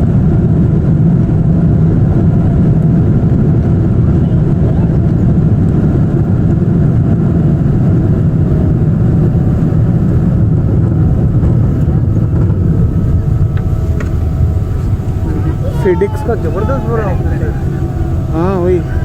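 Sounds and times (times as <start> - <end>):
jet cabin engine rumble: 0.0 - 19.0.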